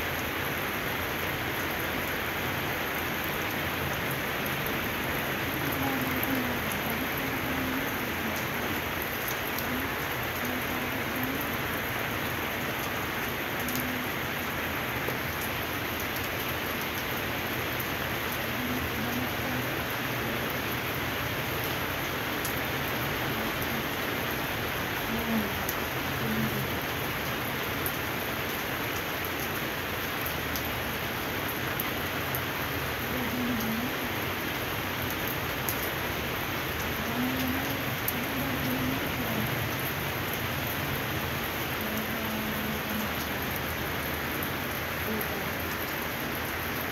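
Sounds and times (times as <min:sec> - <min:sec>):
rain on wet pavement: 0:00.0 - 0:46.9.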